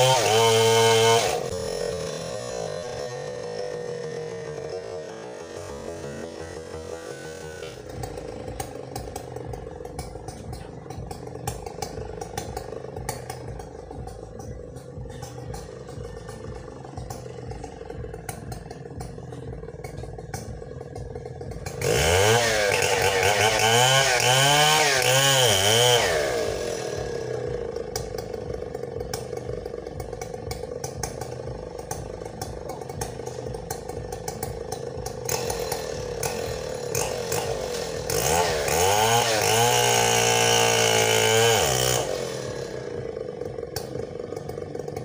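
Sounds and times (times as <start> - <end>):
chainsaw idling and revving: 0.0 - 45.0.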